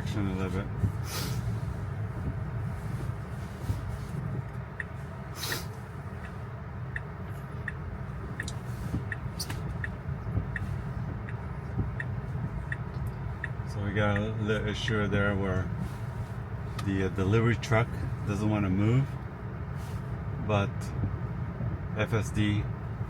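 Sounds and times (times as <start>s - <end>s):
low car cabin hum: 0.0s - 23.0s
turn signal ticking: 0.0s - 23.0s.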